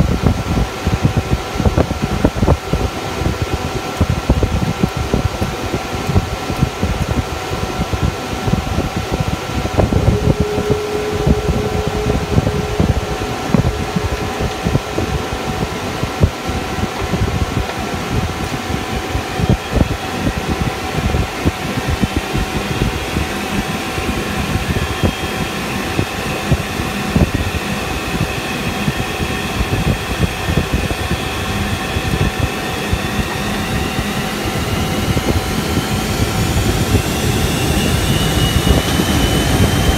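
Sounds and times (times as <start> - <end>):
cockpit air conditioning: 0.0 - 39.9
jet engines whining: 0.0 - 39.9.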